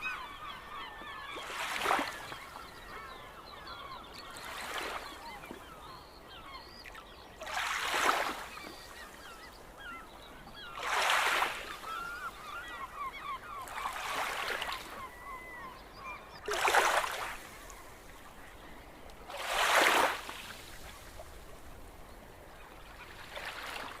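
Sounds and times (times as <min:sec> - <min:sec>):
gulls calling: 0:00.0 - 0:21.1.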